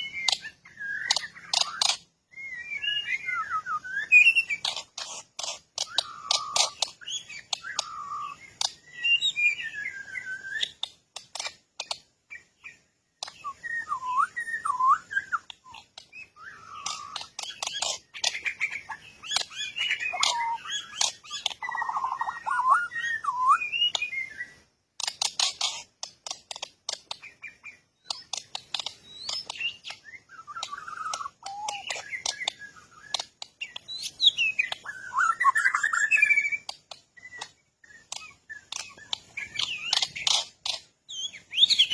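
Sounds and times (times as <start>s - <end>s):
bird chirping and whistling: 0.0s - 41.9s.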